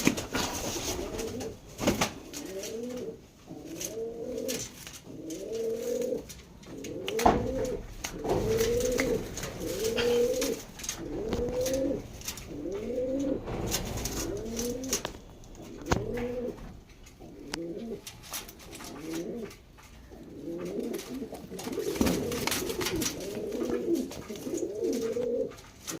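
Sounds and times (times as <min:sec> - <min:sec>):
pigeon cooing: 0:00.0 - 0:26.0.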